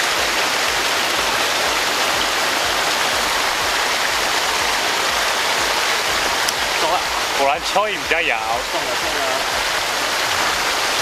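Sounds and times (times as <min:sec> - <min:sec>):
water rushing in a ditch: 0:00.0 - 0:11.0.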